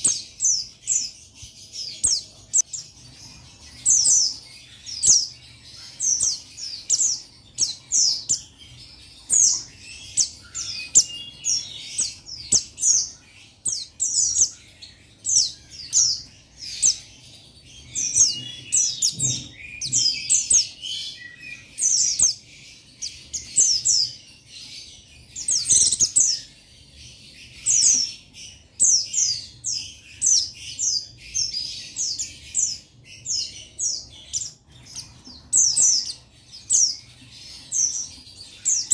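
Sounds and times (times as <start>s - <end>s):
bird high chirping song: 0.0s - 38.9s.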